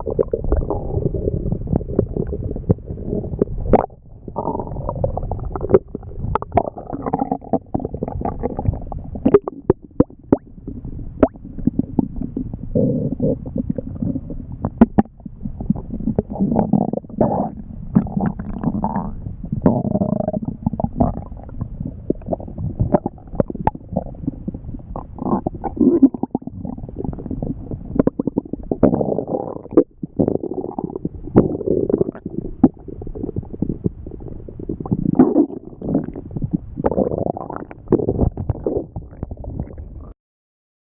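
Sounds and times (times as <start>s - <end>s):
stomach growling and gurgling: 0.0s - 40.2s.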